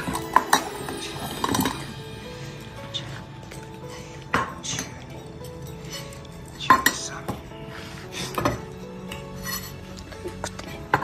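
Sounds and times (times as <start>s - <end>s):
dishes and utensils clattering: 0.0s - 2.3s, 3.4s - 11.0s
faint background music: 0.0s - 11.0s.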